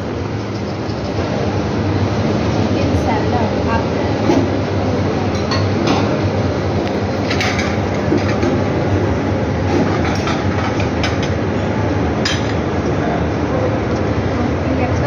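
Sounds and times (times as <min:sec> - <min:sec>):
restaurant room hum: 0:00.0 - 0:15.0.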